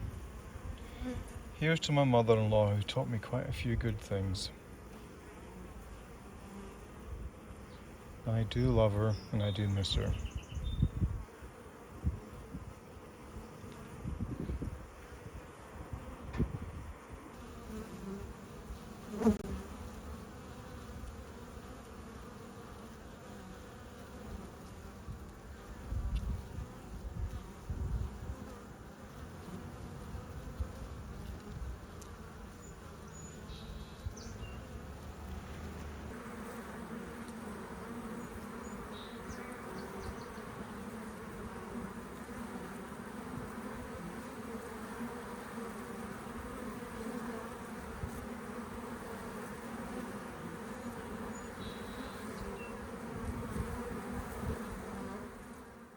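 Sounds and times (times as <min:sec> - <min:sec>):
honeybees humming: 0:00.0 - 0:55.9.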